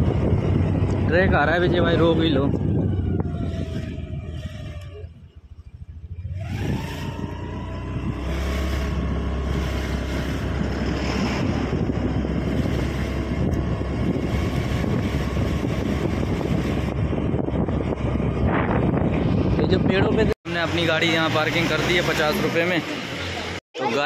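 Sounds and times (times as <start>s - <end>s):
wind on microphone: 0.0s - 20.4s
scooter engine whine: 0.0s - 24.0s.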